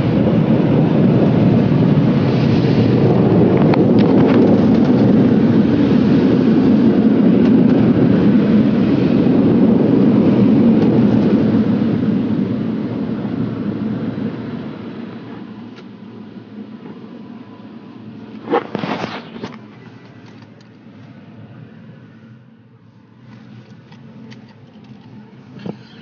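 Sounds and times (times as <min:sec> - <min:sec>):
car wash rumble from inside car: 0:00.0 - 0:26.0.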